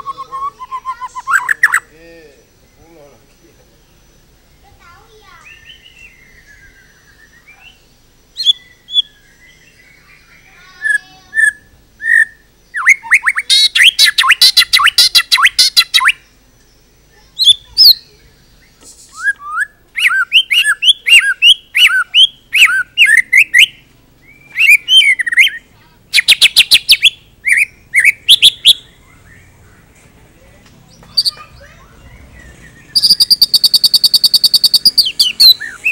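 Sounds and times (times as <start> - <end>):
bird singing varied song: 0.0 - 35.9.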